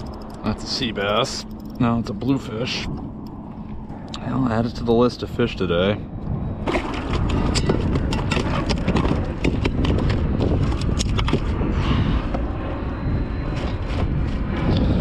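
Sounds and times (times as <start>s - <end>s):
steady low rush: 0.0s - 15.0s.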